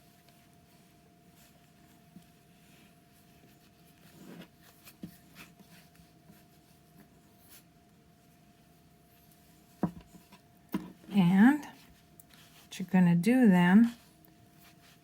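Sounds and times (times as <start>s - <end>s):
faint high hum: 0.0s - 15.0s
hands rustling yarn: 0.0s - 15.0s.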